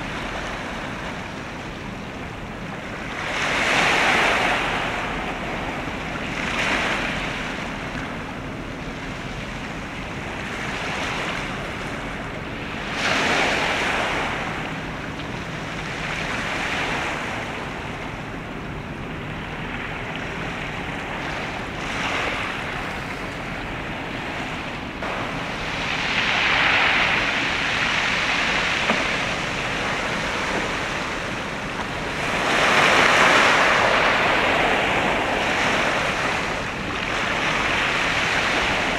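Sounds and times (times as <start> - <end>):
waves washing in: 0.0 - 38.9
wind on the microphone: 0.0 - 38.9.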